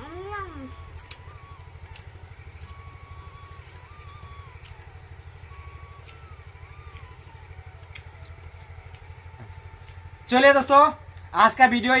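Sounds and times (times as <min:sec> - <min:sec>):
faint whistle-like calls: 0:00.0 - 0:10.6
small engine running: 0:00.0 - 0:12.0.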